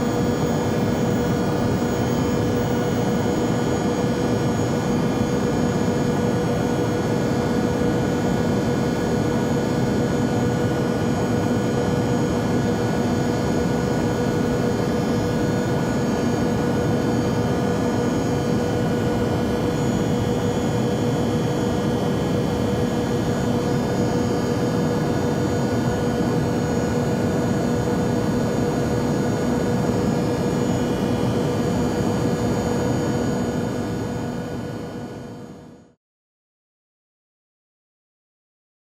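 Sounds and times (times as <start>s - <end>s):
jet engine and airflow rush: 0.0s - 35.8s
cabin hum and whine: 0.0s - 36.0s.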